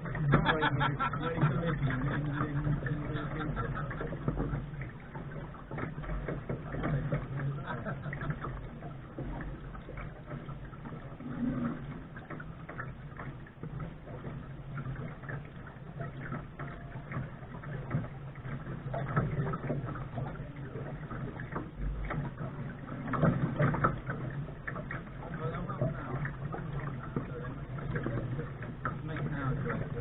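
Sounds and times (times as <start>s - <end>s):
water splashing against boat bow: 0.0s - 30.0s.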